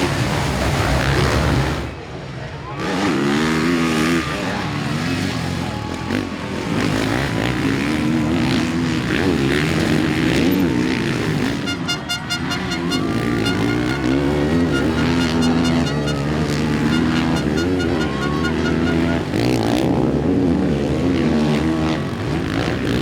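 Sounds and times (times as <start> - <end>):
motocross bike engines revving: 0.0 - 2.1, 2.8 - 23.0.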